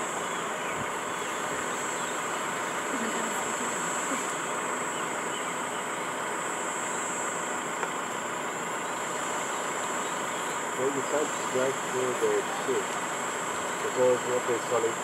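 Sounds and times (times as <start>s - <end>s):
high-pitched whine: 0.0s - 15.0s
vehicle engine idling: 0.0s - 15.0s.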